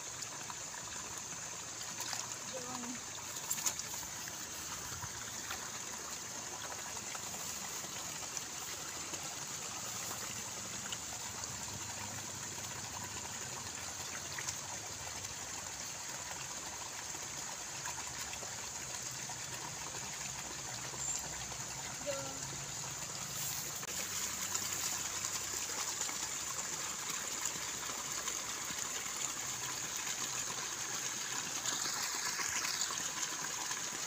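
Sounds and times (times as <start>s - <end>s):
shallow water trickling: 0.0s - 34.0s.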